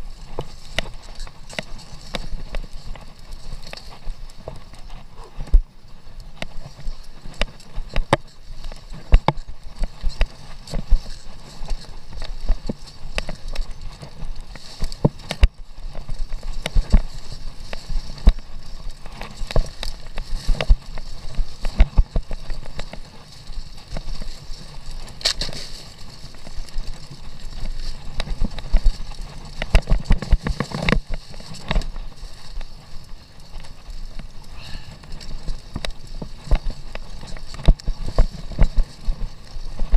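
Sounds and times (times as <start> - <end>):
bike knocks and rattles: 6.3 - 39.9.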